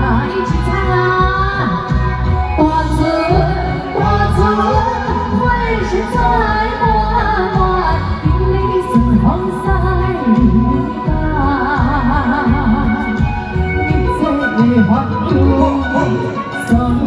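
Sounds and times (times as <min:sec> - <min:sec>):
backing music with heavy bass: 0:00.0 - 0:17.0
woman singing: 0:00.0 - 0:17.0.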